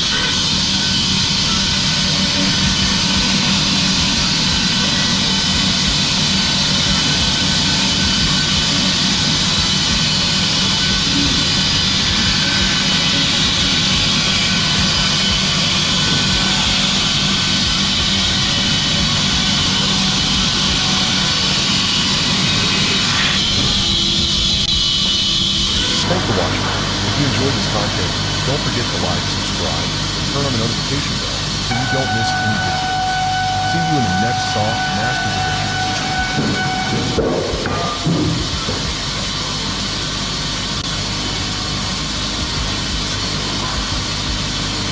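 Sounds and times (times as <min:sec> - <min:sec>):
heavy machinery running: 0:00.0 - 0:44.9.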